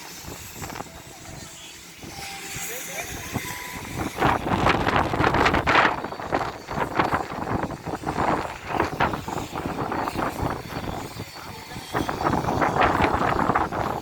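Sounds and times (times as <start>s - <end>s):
train rumbling and rattling: 0.0s - 14.0s.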